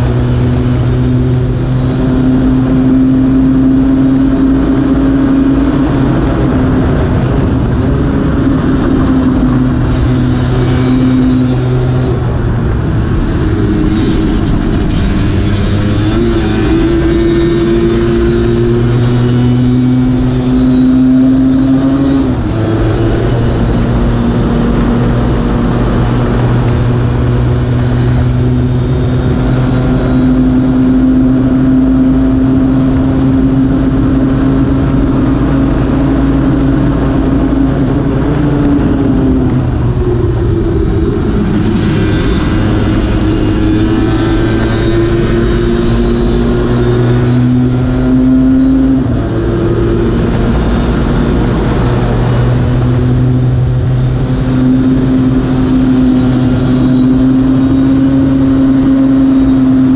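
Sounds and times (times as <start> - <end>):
two-stroke scooter engine revving high: 6.3 - 37.9, 38.6 - 59.9.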